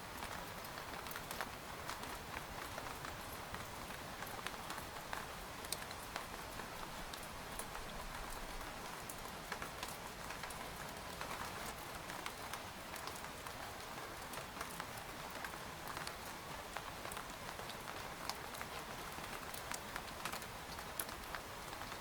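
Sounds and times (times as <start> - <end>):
rain on a tent: 0.0 - 22.0.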